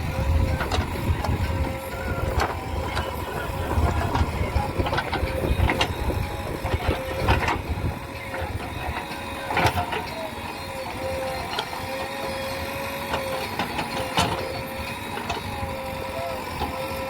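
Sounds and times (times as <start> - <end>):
excavator diesel engine rumbling: 0.0 - 17.0.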